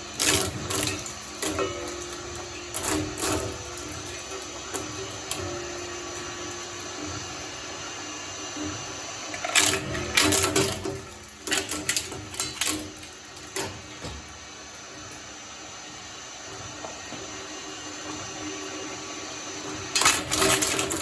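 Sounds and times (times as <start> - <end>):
material crunching in shredder: 0.0 - 15.8, 19.8 - 21.0
shredder motor humming: 0.0 - 21.0.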